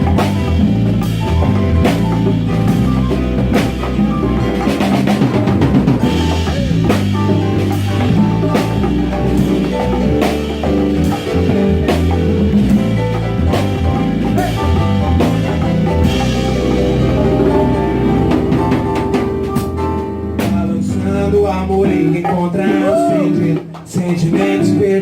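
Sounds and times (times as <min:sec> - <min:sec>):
drum kit beat: 0:00.0 - 0:25.0
instrumental band playing: 0:00.0 - 0:25.0.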